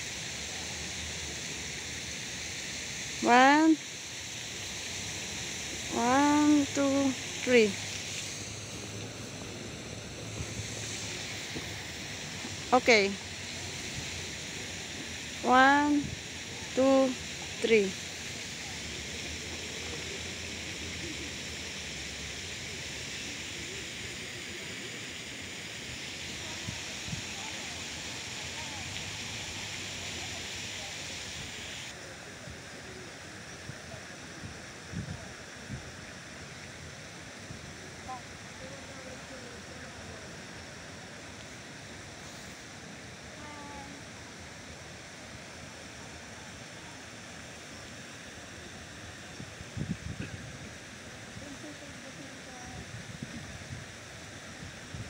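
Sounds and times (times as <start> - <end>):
outdoor hiss: 0.0 - 55.0.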